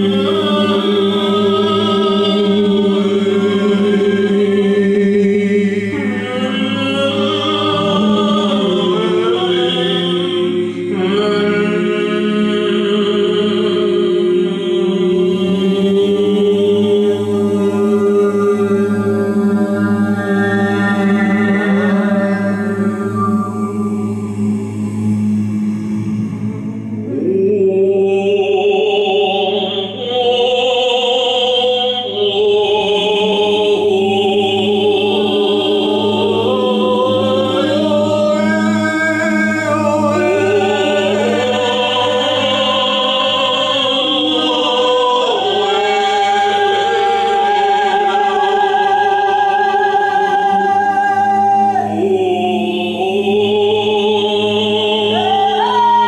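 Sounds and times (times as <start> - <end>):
man and woman singing wordlessly: 0.0 - 23.0, 27.1 - 56.0
low drone: 0.0 - 56.0.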